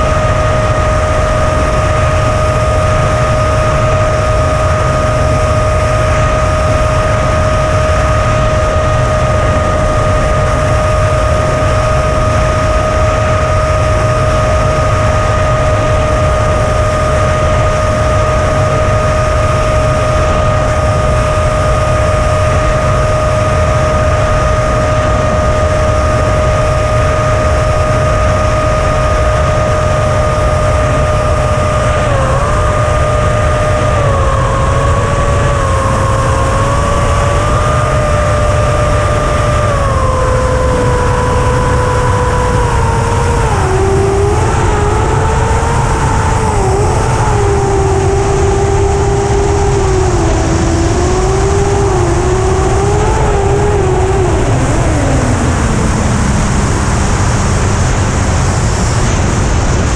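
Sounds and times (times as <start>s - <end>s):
drone motors whining: 0.0s - 59.9s
wind rushing: 0.0s - 59.9s.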